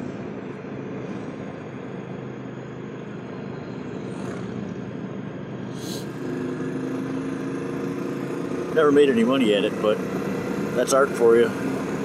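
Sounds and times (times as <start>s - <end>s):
motorcycle engine running: 1.0s - 12.0s.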